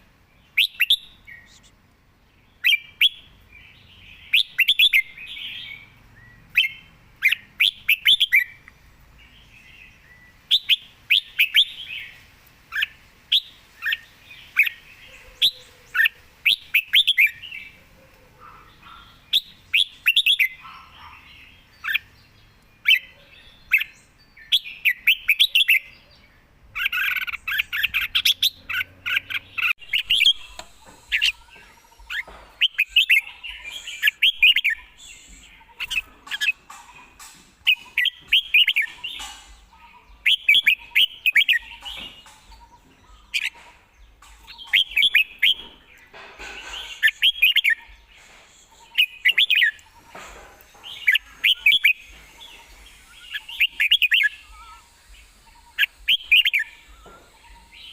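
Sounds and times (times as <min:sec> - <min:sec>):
bulbul singing: 0:00.0 - 0:01.8, 0:02.4 - 0:57.9.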